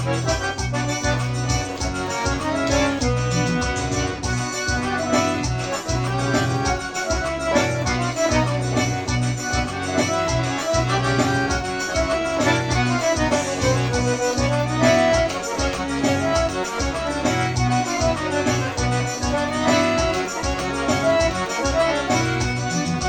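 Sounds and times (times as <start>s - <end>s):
accordion music: 0.0s - 23.0s.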